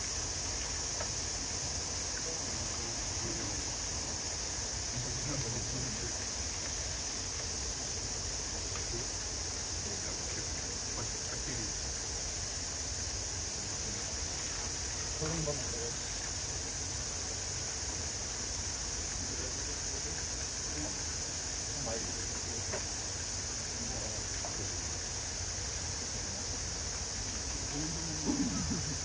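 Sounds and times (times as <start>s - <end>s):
insect chorus: 0.0s - 29.0s
distant voices murmuring: 1.7s - 12.1s, 13.4s - 16.4s, 18.8s - 29.0s.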